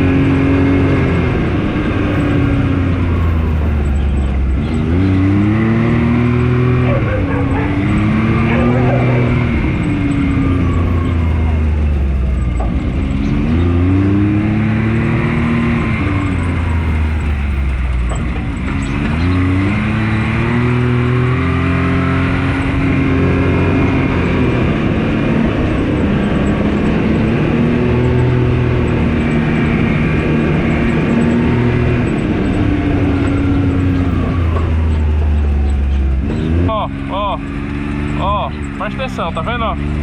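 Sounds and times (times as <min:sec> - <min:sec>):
engine revving while driving: 0:00.0 - 0:40.0
road noise: 0:00.0 - 0:40.0.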